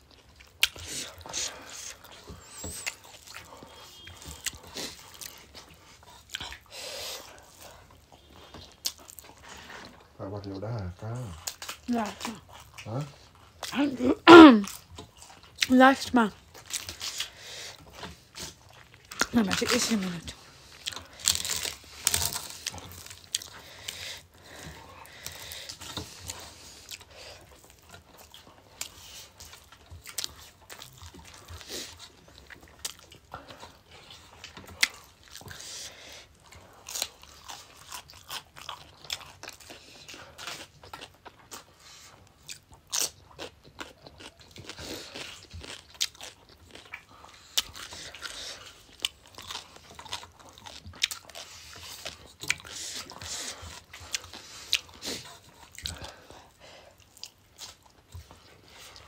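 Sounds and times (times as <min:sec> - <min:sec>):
people chewing food: 0:00.0 - 0:59.0.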